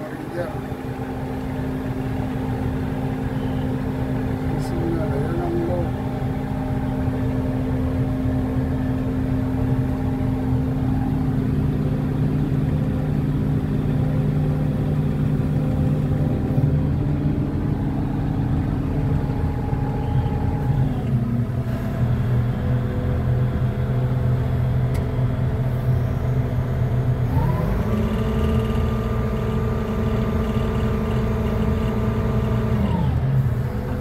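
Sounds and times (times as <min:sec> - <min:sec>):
crane machinery humming: 0:00.0 - 0:34.0.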